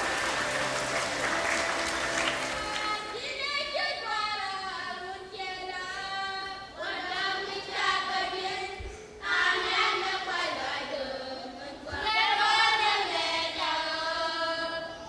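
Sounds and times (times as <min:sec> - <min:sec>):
voices singing: 0:00.0 - 0:15.0.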